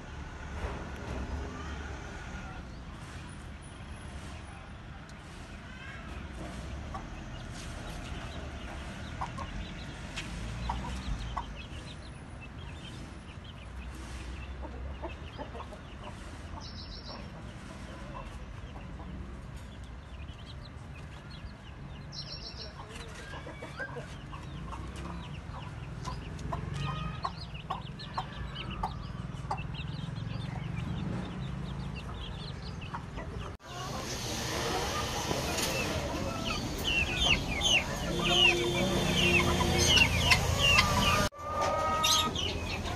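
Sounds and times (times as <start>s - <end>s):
chickens clucking and peeping: 0.0s - 42.9s.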